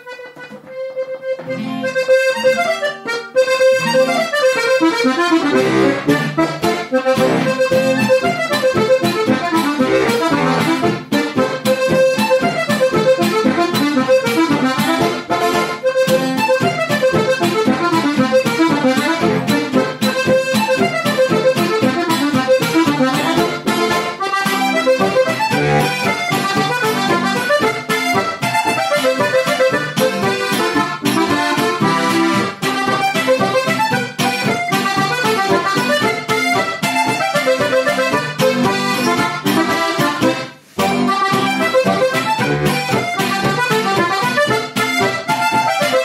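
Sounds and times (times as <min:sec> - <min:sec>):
button accordion folk tune: 0:00.0 - 0:46.0.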